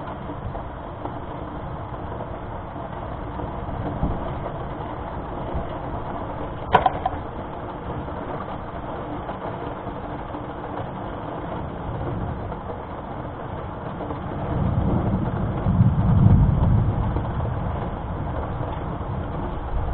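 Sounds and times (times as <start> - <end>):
low rumble of thunder: 0.0 - 19.9
steady rain: 0.0 - 19.9.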